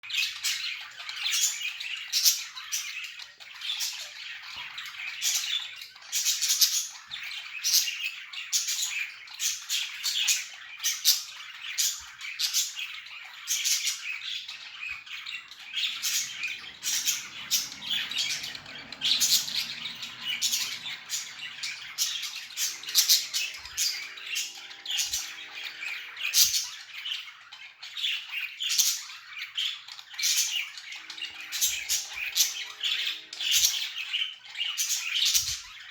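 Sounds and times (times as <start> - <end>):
budgerigars chirping: 0.1 - 35.9.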